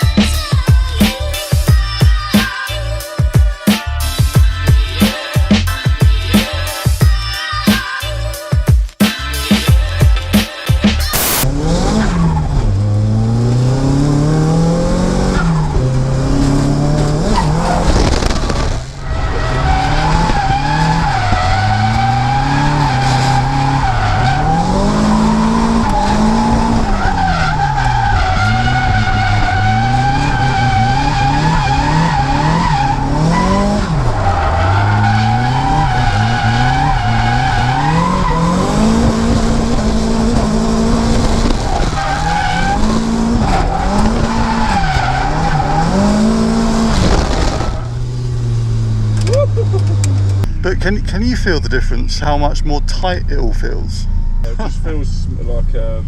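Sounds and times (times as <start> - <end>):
car engine revving: 11.0 - 56.0.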